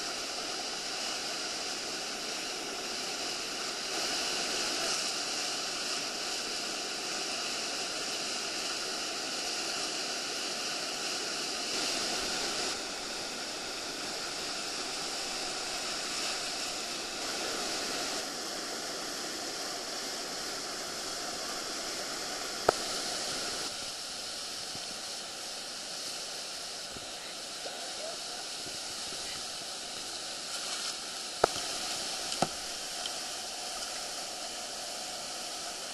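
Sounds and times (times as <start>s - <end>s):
white water rushing: 0.0s - 35.9s.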